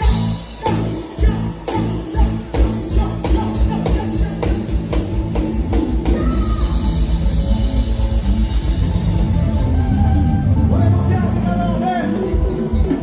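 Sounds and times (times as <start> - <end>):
band playing live: 0.0 - 13.0
bass guitar: 0.0 - 13.0
drum kit beat: 0.0 - 13.0.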